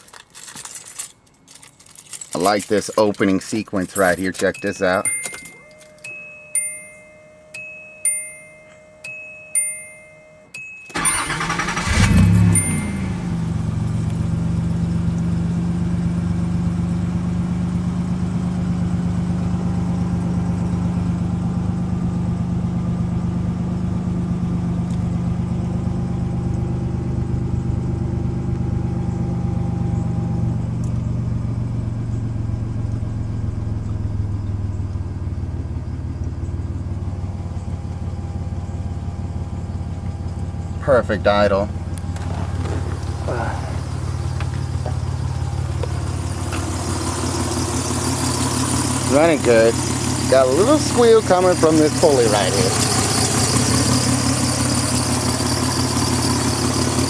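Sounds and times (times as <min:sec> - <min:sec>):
car engine idling: 0:01.3 - 0:57.0.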